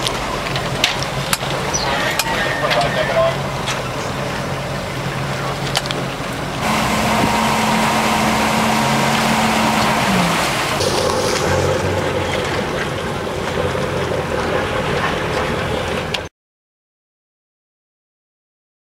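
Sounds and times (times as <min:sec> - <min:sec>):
motorboat engine running: 0:00.0 - 0:16.3
water noise: 0:00.0 - 0:16.3.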